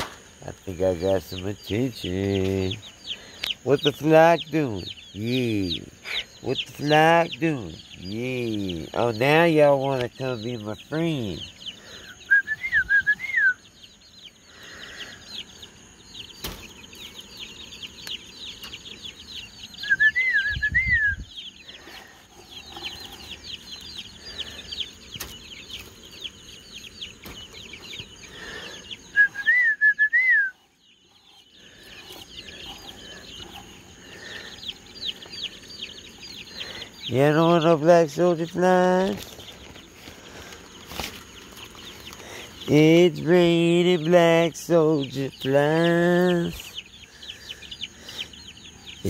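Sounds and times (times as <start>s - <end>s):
chicks peeping: 0.0s - 49.0s.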